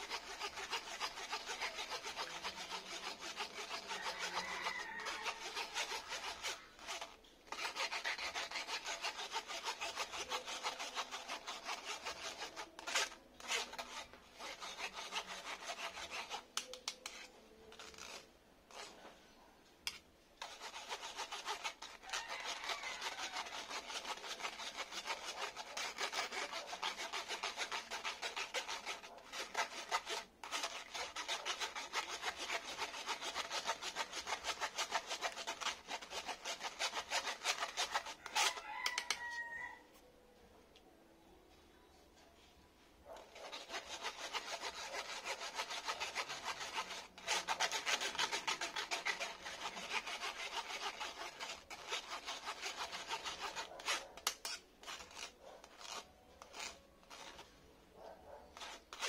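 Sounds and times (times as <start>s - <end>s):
metal spoon scraping mesh strainer: 0.0s - 19.0s, 19.8s - 39.6s, 43.2s - 57.5s.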